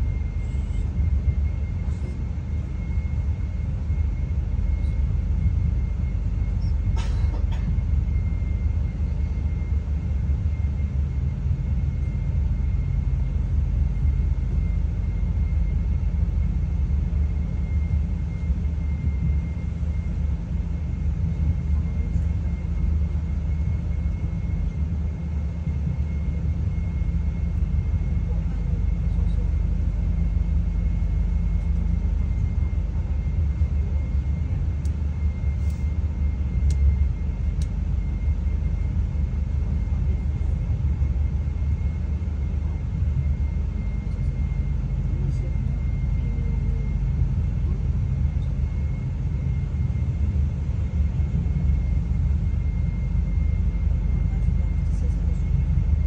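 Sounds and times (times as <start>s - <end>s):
faint high whine: 0.0s - 56.0s
train carriage rumble: 0.0s - 56.0s.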